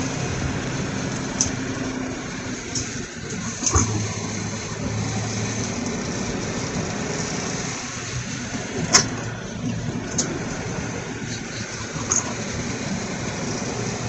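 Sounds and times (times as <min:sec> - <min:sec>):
car running hum: 0:00.0 - 0:14.0
road noise: 0:00.0 - 0:14.0.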